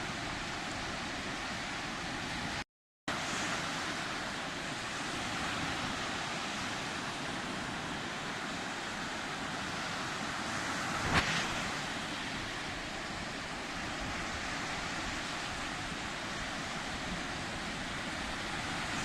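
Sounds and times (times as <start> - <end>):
waves breaking on shore: 0.0 - 19.0.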